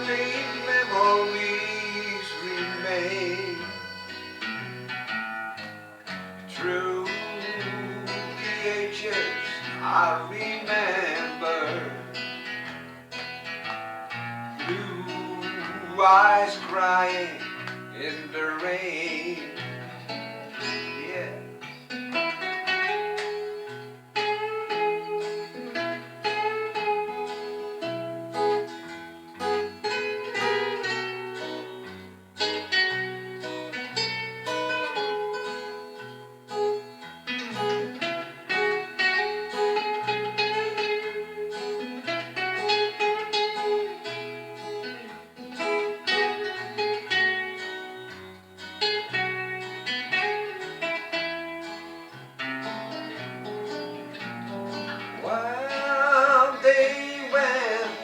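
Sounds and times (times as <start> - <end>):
guitar picking a melody: 0.0 - 58.0
plucked strings backing: 0.0 - 58.0.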